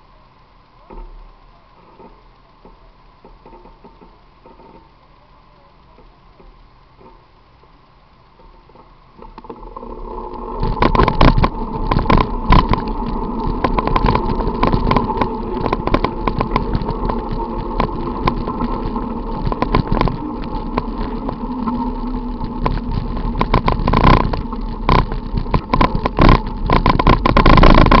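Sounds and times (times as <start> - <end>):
bicycle knocks and rattles: 1.8 - 5.0, 8.4 - 28.0.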